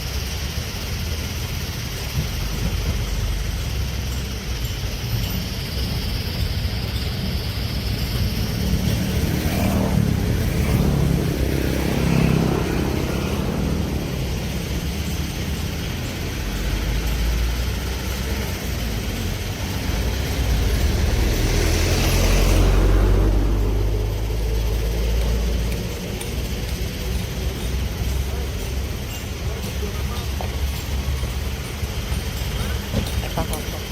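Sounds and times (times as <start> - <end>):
diesel engine rumbling: 0.0 - 33.9.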